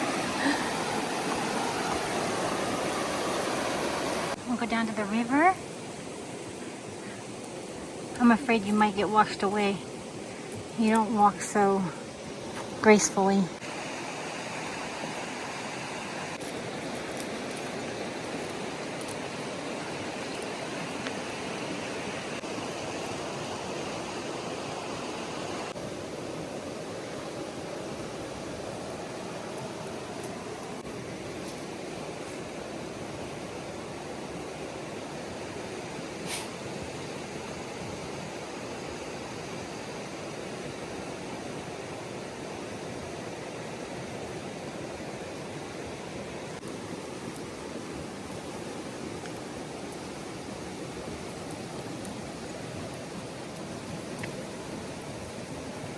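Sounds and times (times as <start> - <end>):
river water rushing: 0.0 - 8.4, 9.0 - 55.9.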